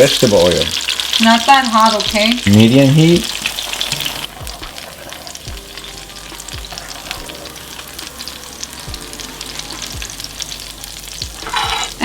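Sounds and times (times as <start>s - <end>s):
tortillas frying in oil: 0.0s - 12.0s.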